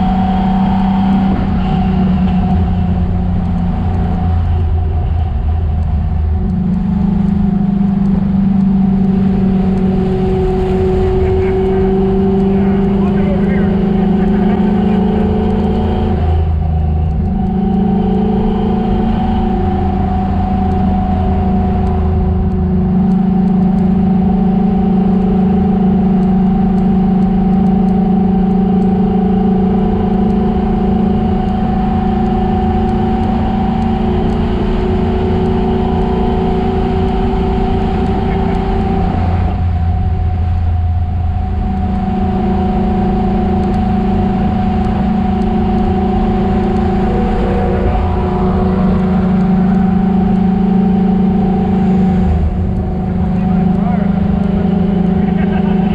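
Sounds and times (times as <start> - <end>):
car engine at high revs: 0.0 - 55.9.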